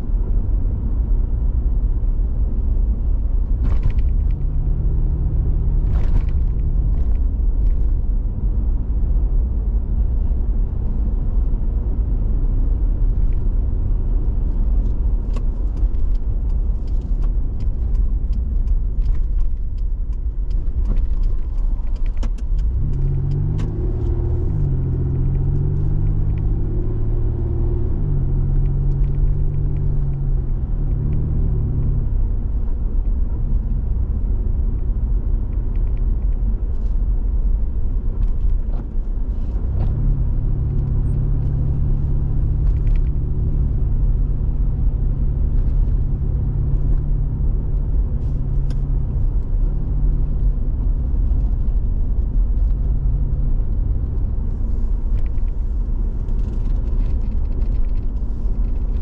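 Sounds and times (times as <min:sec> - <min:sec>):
tyre and engine rumble: 0:00.0 - 0:59.0.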